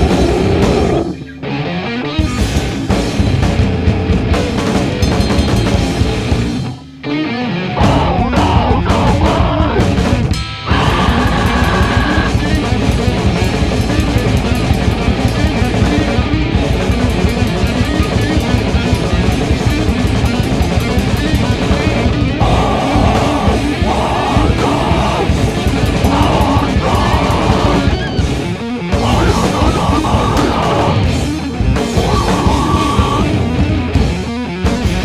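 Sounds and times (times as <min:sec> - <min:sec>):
drums playing: 0:00.0 - 0:01.5, 0:02.2 - 0:07.2, 0:07.8 - 0:35.0
distorted electric guitars: 0:00.0 - 0:35.0.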